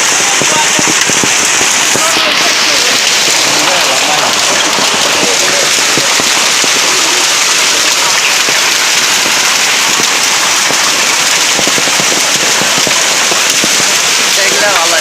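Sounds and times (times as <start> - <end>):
heavy rain falling: 0.0 - 15.0
sharp raindrop strikes: 0.0 - 15.0.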